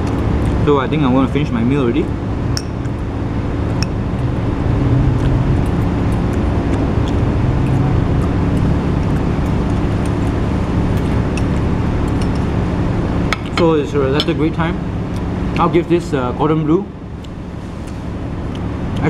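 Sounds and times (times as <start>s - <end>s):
highway traffic noise: 0.0s - 19.0s.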